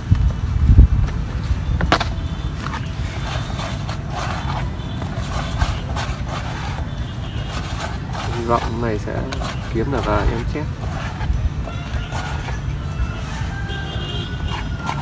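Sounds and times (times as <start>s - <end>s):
plastic packet rustling and scraping: 2.6s - 15.0s.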